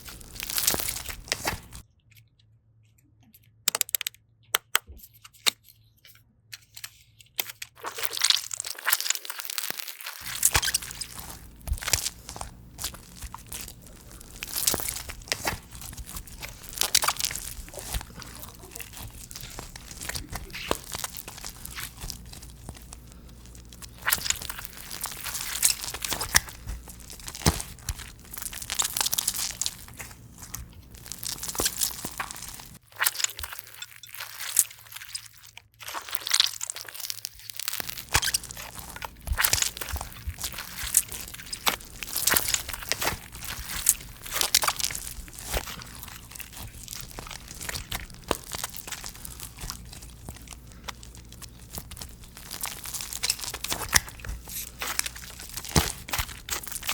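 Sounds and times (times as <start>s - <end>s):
slime crackling and popping: 0.0s - 1.8s, 7.8s - 56.9s.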